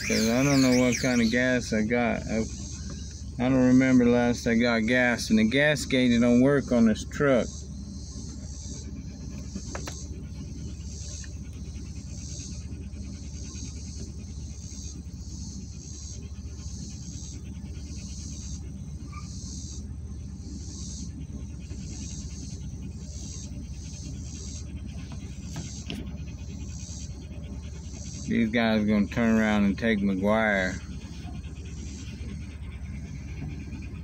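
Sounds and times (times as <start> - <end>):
insects buzzing: 0.0 - 34.0
truck engine idling: 0.0 - 34.0.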